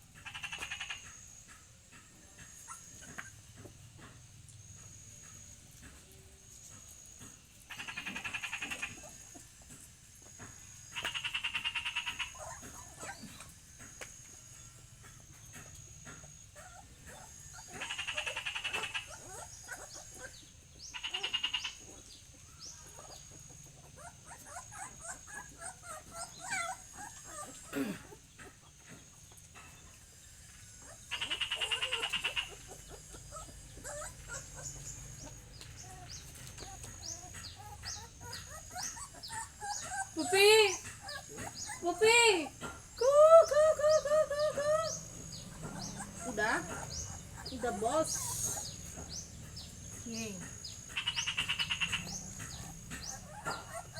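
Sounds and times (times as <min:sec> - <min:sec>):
trilled animal calls: 0:00.0 - 0:03.8, 0:07.6 - 0:09.6, 0:10.4 - 0:53.9
small chirps and squeaks: 0:00.2 - 0:04.1, 0:04.9 - 0:27.7, 0:28.4 - 0:53.9.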